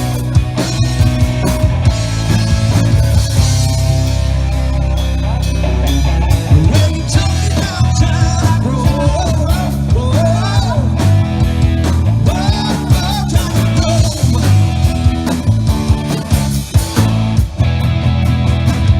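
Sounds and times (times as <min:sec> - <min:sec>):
rock band playing: 0:00.0 - 0:18.9
steady drum beat: 0:00.0 - 0:18.9.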